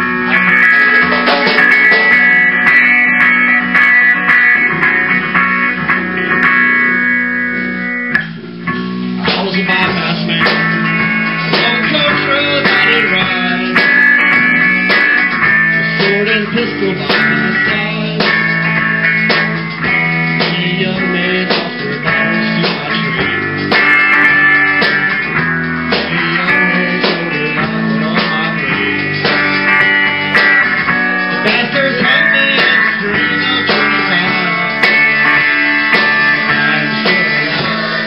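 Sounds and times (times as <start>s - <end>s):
drum kit: 0.0s - 38.0s
electric guitar: 0.0s - 38.0s.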